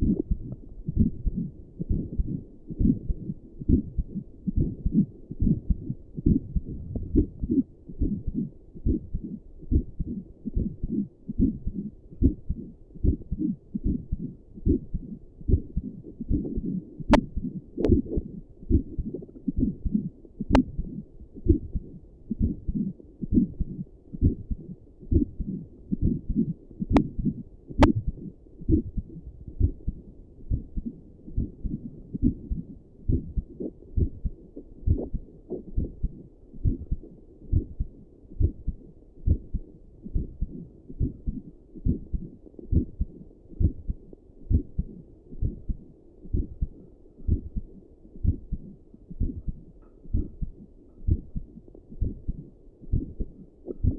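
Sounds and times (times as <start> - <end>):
heartbeat through stethoscope: 0.0 - 53.9.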